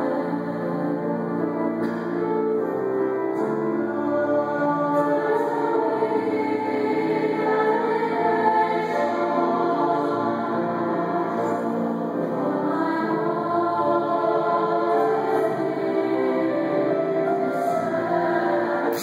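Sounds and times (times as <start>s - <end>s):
mixed choir singing chords: 0.0s - 19.0s.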